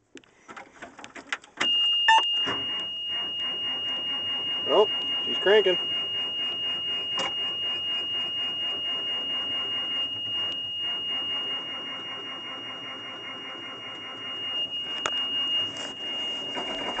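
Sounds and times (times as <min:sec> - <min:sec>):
high-pitched warning tone: 0:01.6 - 0:17.0
diesel engine running: 0:02.4 - 0:17.0.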